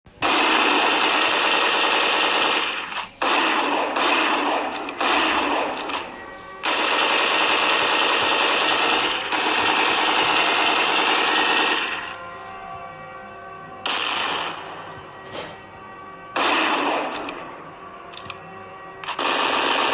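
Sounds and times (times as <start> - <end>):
steady electronic tones: 0.9 - 18.9.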